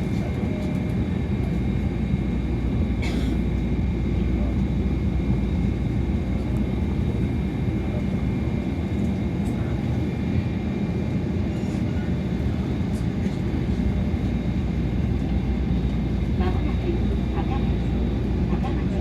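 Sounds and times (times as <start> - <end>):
monorail train rumble: 0.0 - 19.0.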